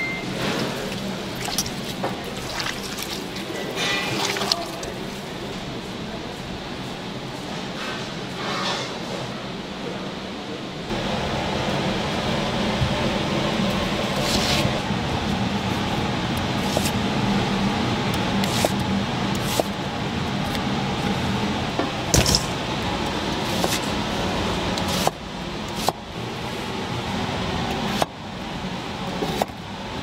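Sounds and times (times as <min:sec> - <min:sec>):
steady hum: 0:00.0 - 0:07.6, 0:09.4 - 0:30.0.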